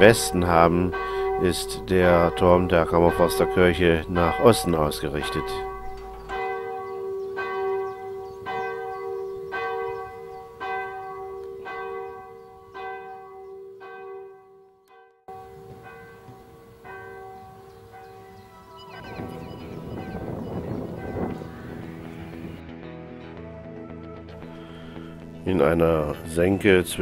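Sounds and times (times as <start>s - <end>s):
church bell tolling: 0.0s - 22.6s.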